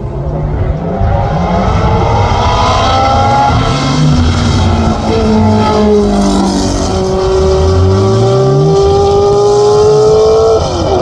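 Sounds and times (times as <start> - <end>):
racing car engine accelerating: 0.2 - 11.0.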